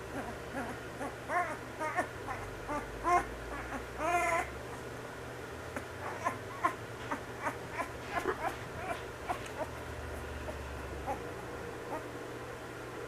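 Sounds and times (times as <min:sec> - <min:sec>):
puppy whining and squeaking: 0:00.1 - 0:04.9, 0:05.8 - 0:12.1.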